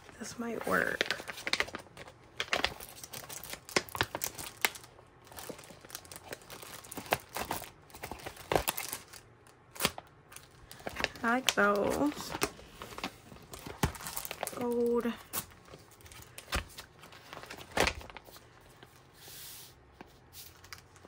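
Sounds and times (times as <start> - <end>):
plastic envelope rustling: 0.0 - 19.2.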